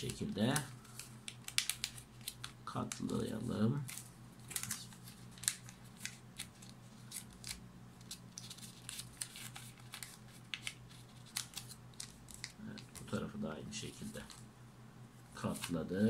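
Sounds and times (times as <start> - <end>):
paper crackling and rustling: 0.0 - 13.3, 13.9 - 14.5, 15.4 - 16.0
faint steady hum: 0.0 - 16.0.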